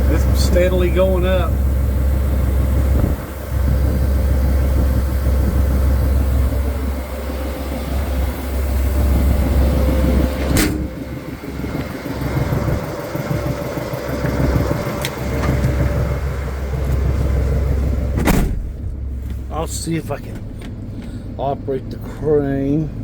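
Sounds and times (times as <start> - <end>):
air compressor humming: 0.0 - 23.0
truck engine idling: 0.0 - 23.0.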